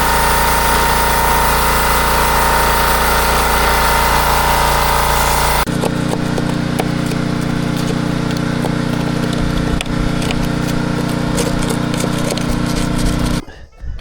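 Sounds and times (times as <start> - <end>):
motor humming: 0.0 - 13.4.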